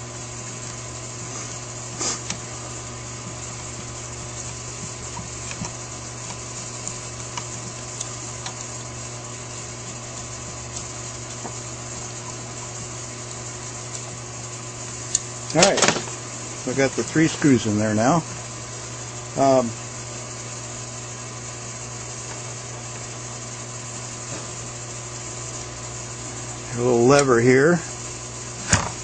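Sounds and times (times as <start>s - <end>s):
electrical hum and hiss: 0.0s - 29.0s.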